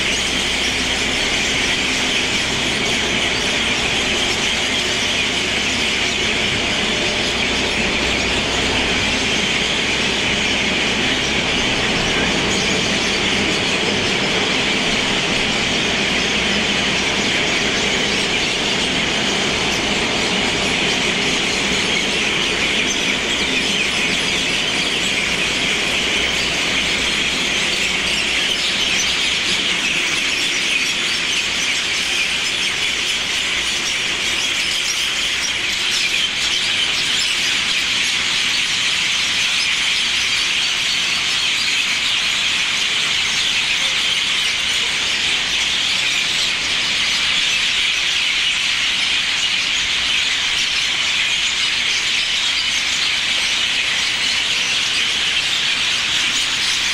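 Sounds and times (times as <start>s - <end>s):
birds chattering: 0.0s - 56.9s.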